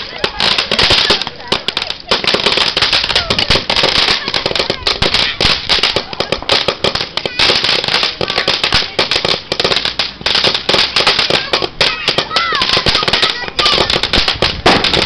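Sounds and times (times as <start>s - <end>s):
fireworks crackling: 0.0s - 15.0s
fireworks fizzing hiss: 0.0s - 15.0s.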